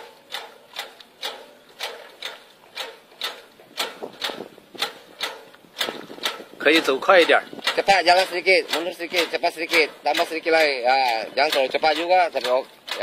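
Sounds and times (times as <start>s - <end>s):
sharp rhythmic clacks: 0.0s - 13.0s.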